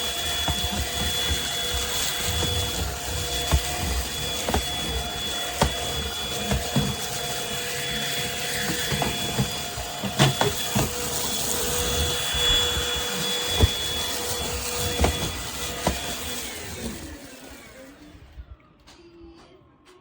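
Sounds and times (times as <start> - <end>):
stick vacuum motor whining: 0.0 - 20.0.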